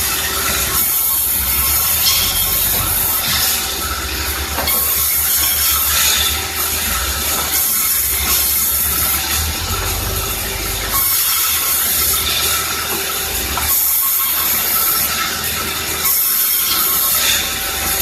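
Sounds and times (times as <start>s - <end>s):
sawmill saw cutting timber: 0.0s - 18.0s.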